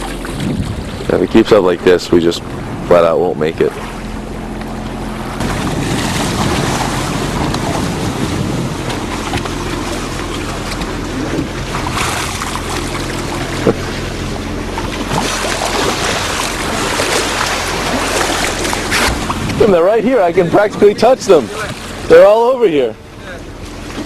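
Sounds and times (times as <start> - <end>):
wind buffeting microphone: 0.0 - 22.1
boat engine running: 0.0 - 24.0
water rushing along hull: 0.0 - 24.0.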